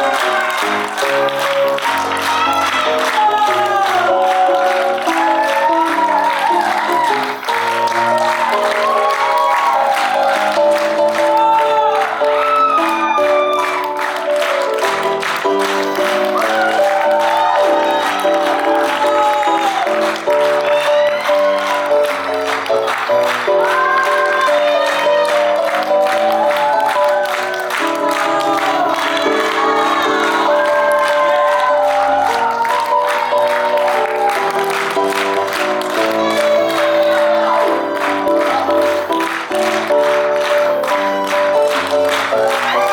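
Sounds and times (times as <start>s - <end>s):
audience applauding: 0.0s - 42.9s
stage musical music: 0.0s - 42.9s.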